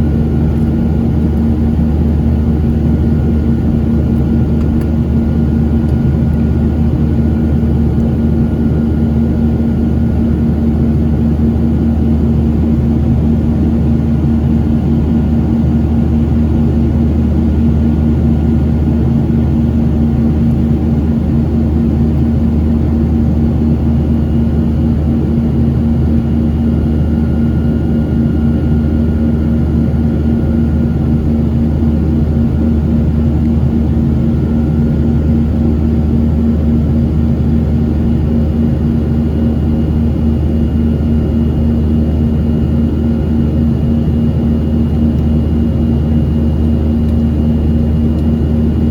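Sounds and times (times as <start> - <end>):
jet cabin engine drone: 0.0 - 48.9.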